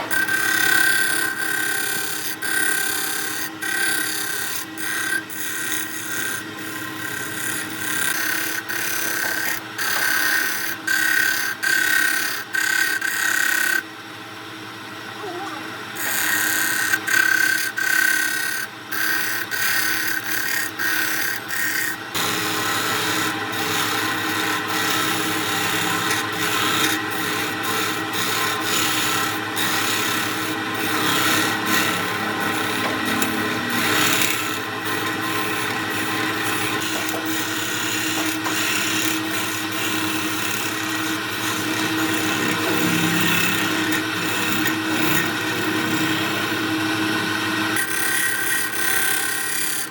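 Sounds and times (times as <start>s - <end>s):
tool scraping spinning wood: 0.0s - 13.8s, 15.9s - 49.9s
lathe humming: 0.0s - 49.9s.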